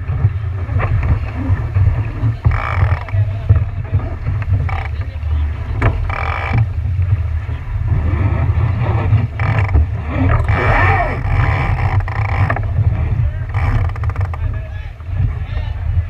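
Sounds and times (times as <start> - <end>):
boat wash on water: 0.0 - 16.0
wind buffeting microphone: 0.0 - 16.0
faint voices: 0.1 - 7.7, 9.4 - 16.0.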